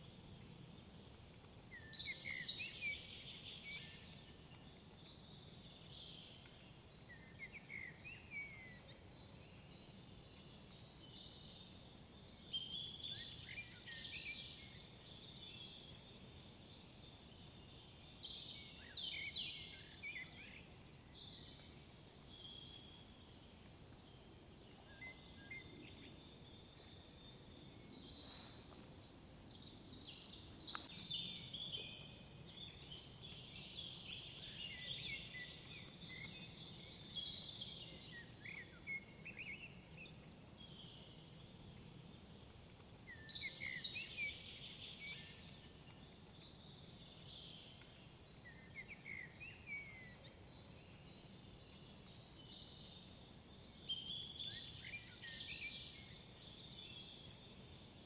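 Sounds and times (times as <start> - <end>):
faint background noise: 0.0 - 58.0.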